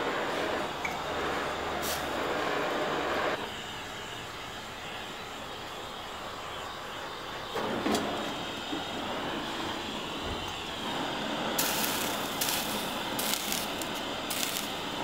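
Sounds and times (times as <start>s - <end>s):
propane torch hissing: 0.0s - 15.0s
water sizzling on hot steel: 0.0s - 15.0s.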